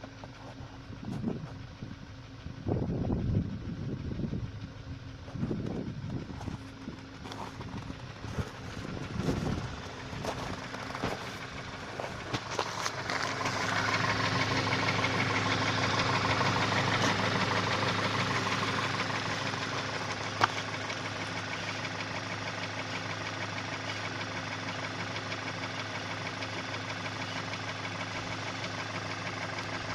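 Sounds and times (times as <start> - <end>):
engine idling with ticking knock: 0.0 - 29.9.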